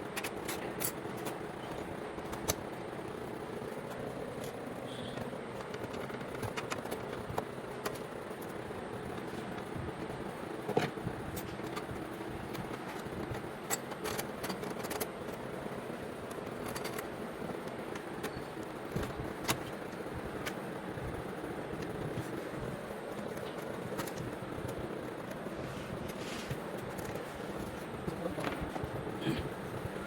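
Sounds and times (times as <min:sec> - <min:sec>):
sharp clicks and clatters: 0:00.0 - 0:29.0.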